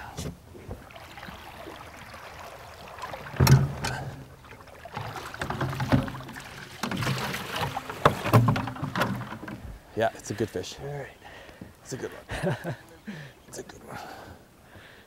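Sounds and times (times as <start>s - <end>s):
water noise: 0.0s - 14.9s.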